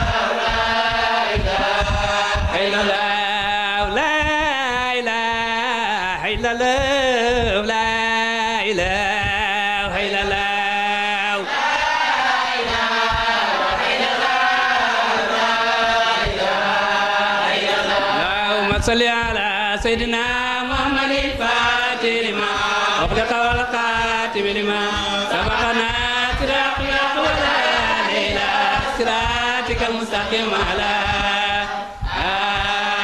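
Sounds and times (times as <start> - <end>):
melodic devotional chanting: 0.0 - 33.0.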